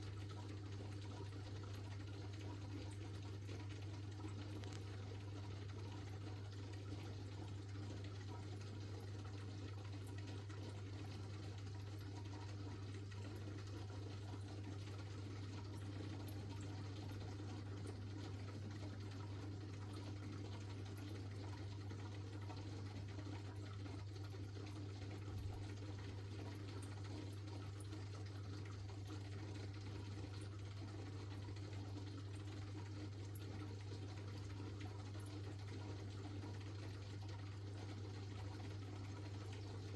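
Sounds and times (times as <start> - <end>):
aquarium filter humming: 0.0 - 39.9.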